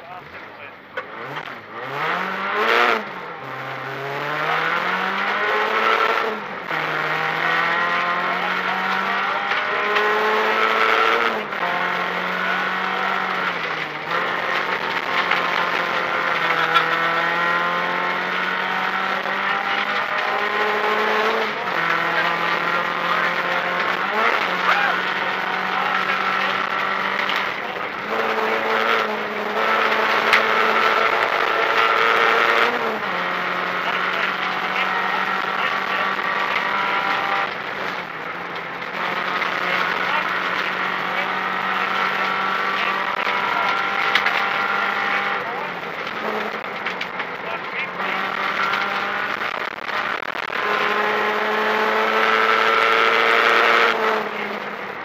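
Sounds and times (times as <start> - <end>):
car engine revving: 0.0 - 55.0
tyre and road noise: 0.0 - 55.0.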